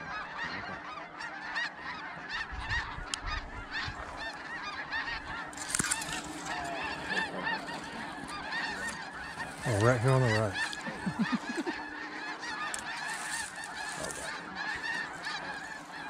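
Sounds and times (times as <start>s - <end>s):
geese honking chorus: 0.0s - 16.0s
dry grass rustling: 2.4s - 16.0s.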